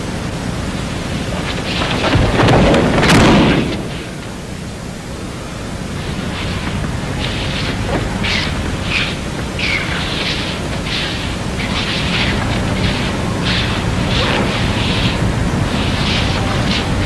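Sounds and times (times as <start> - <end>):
steady hiss and low hum: 0.0 - 17.0.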